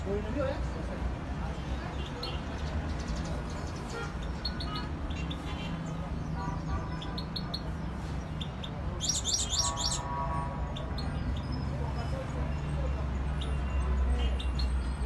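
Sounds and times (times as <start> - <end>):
canaries chirping: 0.0 - 15.0
low traffic rumble: 0.0 - 15.0
canary trill: 1.9 - 15.0.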